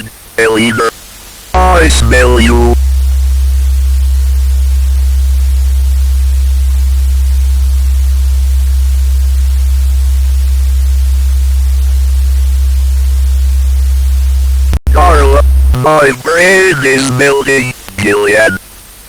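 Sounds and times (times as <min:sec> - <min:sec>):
static hiss: 0:00.0 - 0:19.0
loud low hum: 0:01.6 - 0:17.8.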